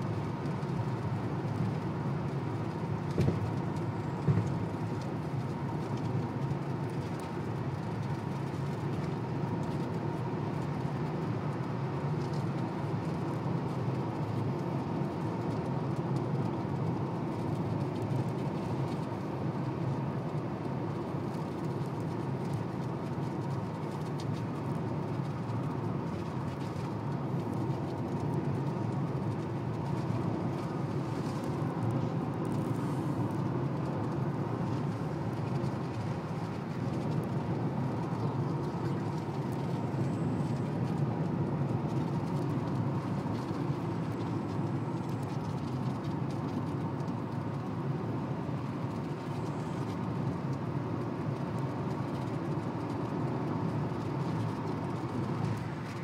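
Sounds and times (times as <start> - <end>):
car road noise from cabin: 0.0 - 56.0.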